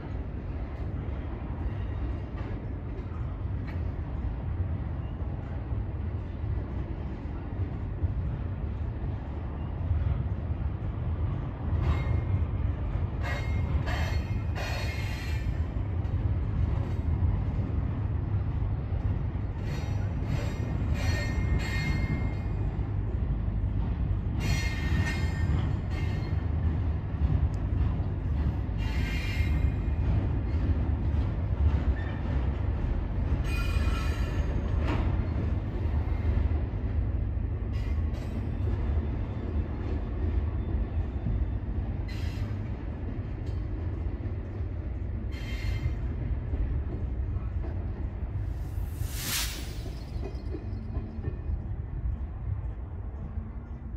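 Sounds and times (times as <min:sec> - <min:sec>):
freight train rumbling over bridge: 0:00.0 - 0:53.9.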